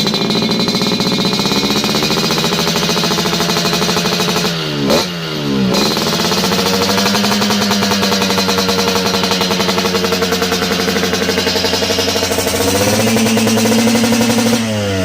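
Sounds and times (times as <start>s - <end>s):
two-stroke motorcycle engine idling: 0.0s - 15.0s.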